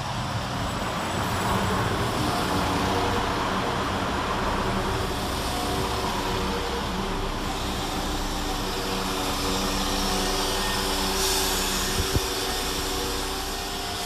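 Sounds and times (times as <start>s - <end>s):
train diesel engine running: 0.0s - 14.0s.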